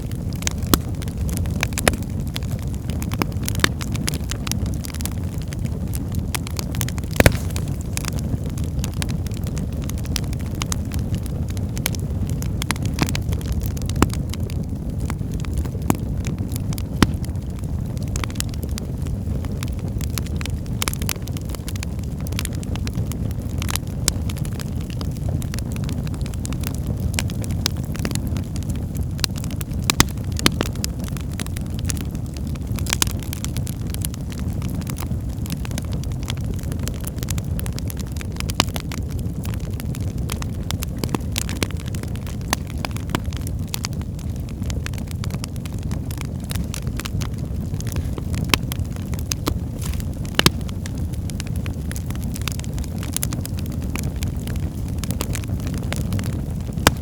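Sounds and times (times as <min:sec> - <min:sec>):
fire flames rumbling: 0:00.0 - 0:57.0
wood fire crackling and popping: 0:00.0 - 0:57.0.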